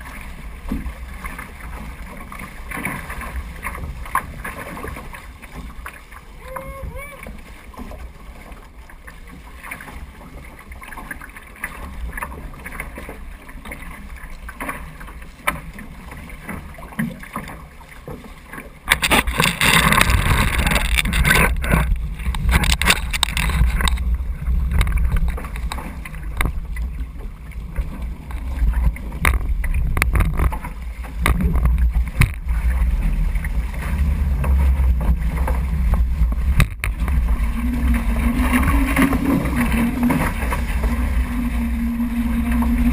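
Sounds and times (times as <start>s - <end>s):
water rushing past a hull: 0.0s - 42.9s.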